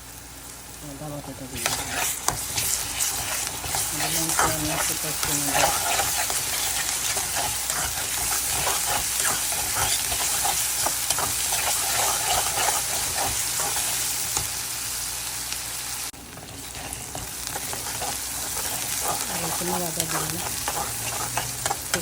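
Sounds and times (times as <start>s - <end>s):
onion sizzling in hot oil: 0.0s - 22.0s
spoon scraping and clicking on pan: 1.6s - 14.5s, 16.3s - 22.0s.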